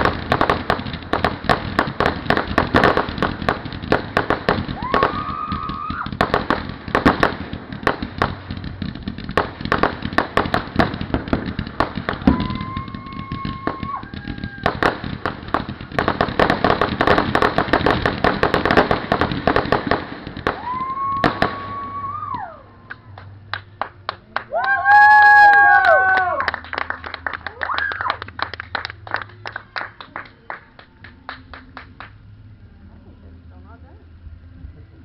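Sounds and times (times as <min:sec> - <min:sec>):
whistling fireworks: 0:00.0 - 0:33.0
fireworks crackling and banging: 0:00.0 - 0:35.0.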